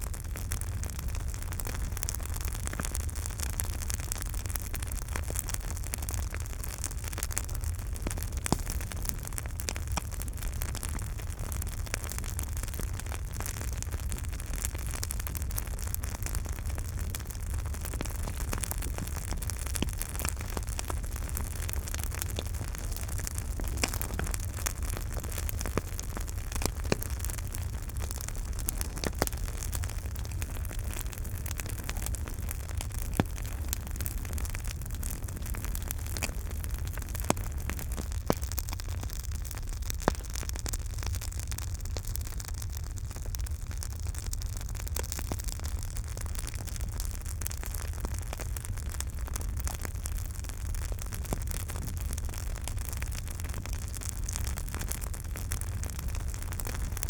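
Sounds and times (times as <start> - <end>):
campfire rumble and hiss: 0.0 - 57.0
wood crackling and popping: 0.0 - 57.0.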